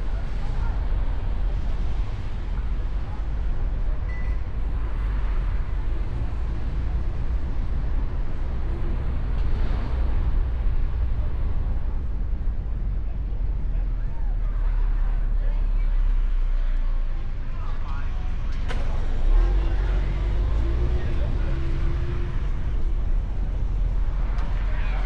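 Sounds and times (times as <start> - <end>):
convertible car driving: 0.0 - 25.0.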